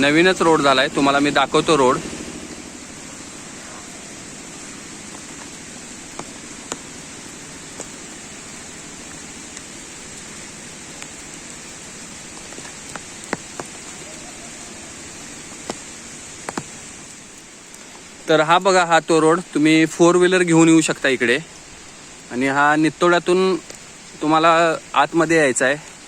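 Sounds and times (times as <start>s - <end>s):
stream and waterfall rushing: 0.0s - 26.0s.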